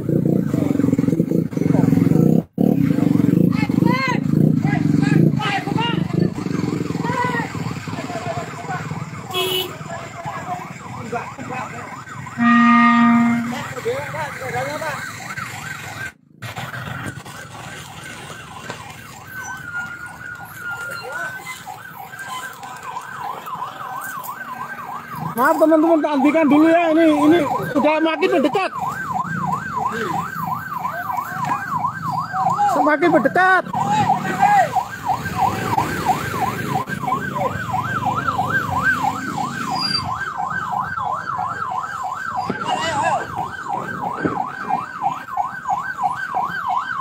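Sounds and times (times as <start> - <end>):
electronic siren yelping: 0.0 - 16.2, 16.9 - 47.0
truck engines rumbling: 0.0 - 47.0.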